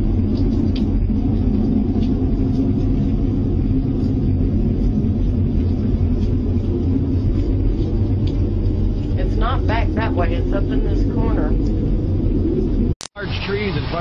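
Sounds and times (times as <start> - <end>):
low droning rumble: 0.0 - 14.0.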